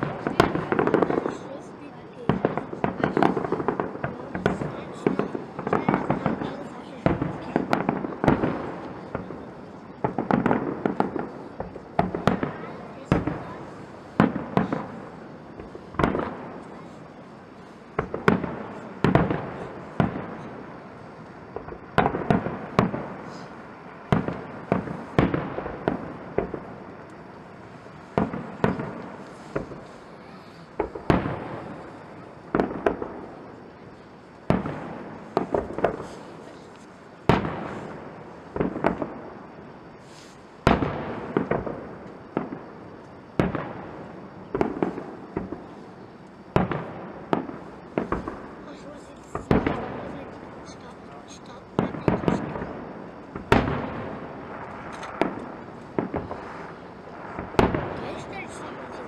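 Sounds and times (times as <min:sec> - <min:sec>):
fireworks bursting with bangs: 0:00.0 - 0:59.0.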